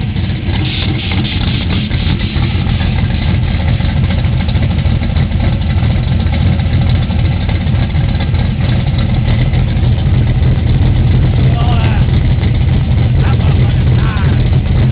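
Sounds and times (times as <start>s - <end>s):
car engine idling loudly: 0.0s - 14.9s.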